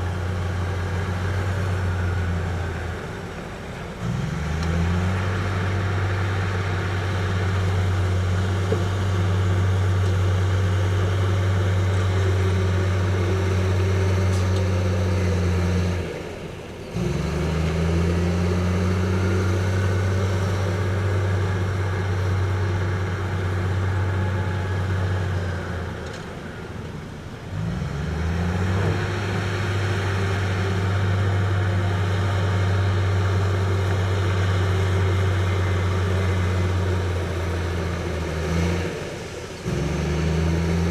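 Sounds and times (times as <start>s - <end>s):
heavy diesel engine under load: 0.0s - 40.9s.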